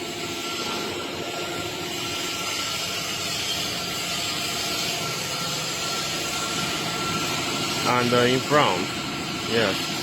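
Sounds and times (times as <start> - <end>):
high steady whine: 0.0 - 10.0
machinery hum and hiss: 0.0 - 10.0.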